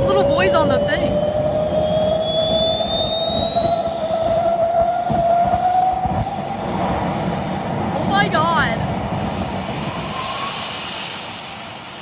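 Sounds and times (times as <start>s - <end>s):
hobby jet engine whining: 0.0s - 12.0s.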